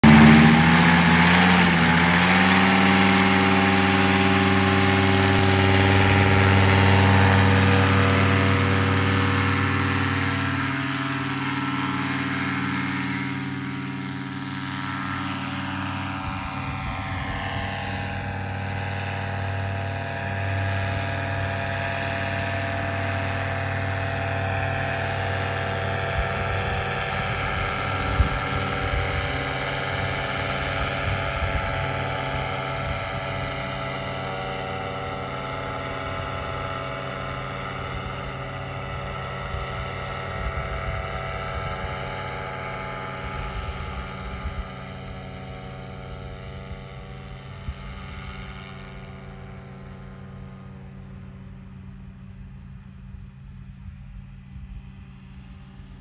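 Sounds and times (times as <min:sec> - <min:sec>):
engine and propeller droning: 0:00.0 - 0:56.0.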